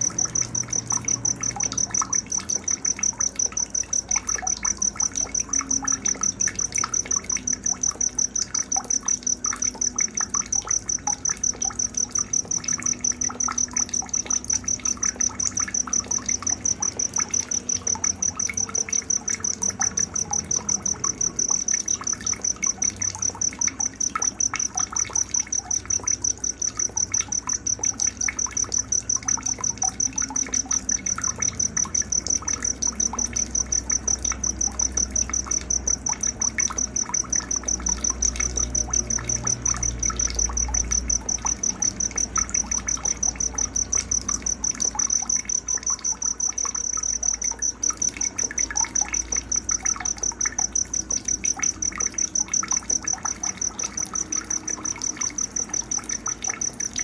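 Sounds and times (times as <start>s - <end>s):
insect chirping in fast pulses: 0.0s - 57.0s.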